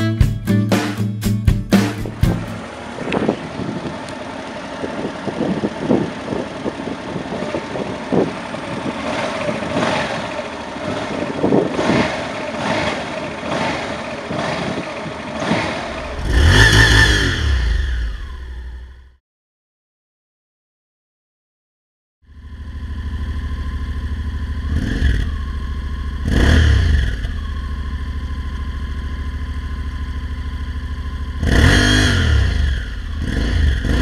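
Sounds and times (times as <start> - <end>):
motorcycle engine revving: 1.7 - 19.2, 22.3 - 34.0.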